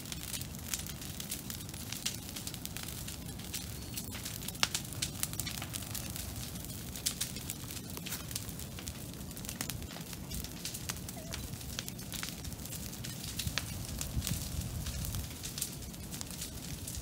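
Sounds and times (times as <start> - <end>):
bonfire crackling and popping: 0.0 - 17.0
fire low rumble: 0.0 - 17.0.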